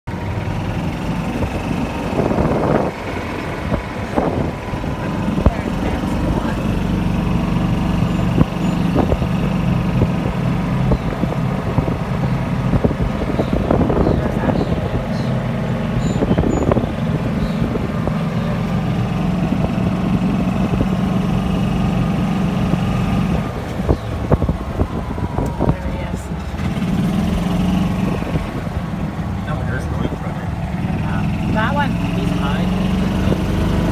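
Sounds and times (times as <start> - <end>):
golf cart motor hum: 0.1 - 33.9.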